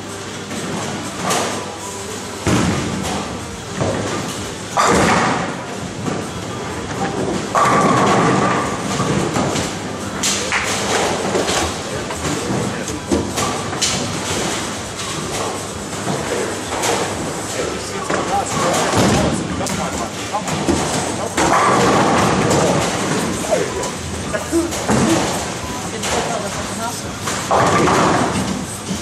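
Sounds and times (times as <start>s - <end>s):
bowling balls thudding and rolling: 2.4s - 29.0s
murmur of voices: 5.5s - 29.0s.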